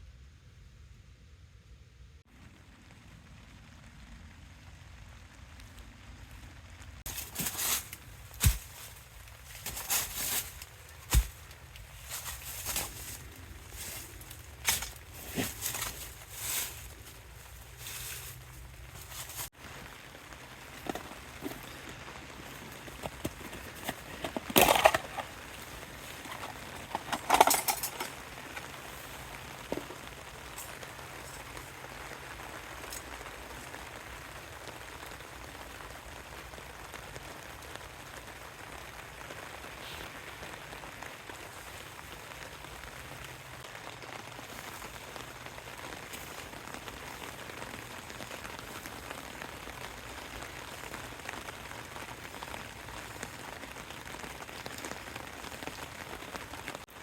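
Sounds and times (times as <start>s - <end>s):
steady rain falling: 2.0s - 57.0s.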